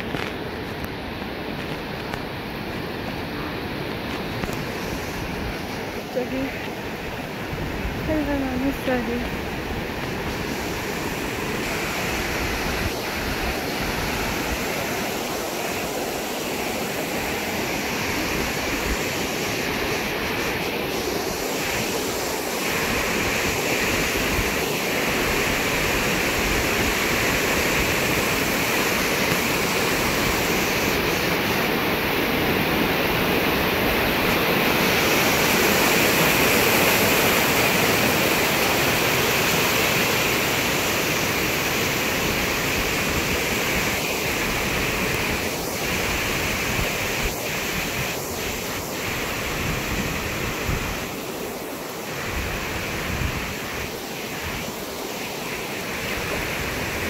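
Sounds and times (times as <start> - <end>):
stream floodwater rushing: 0.0 - 57.0.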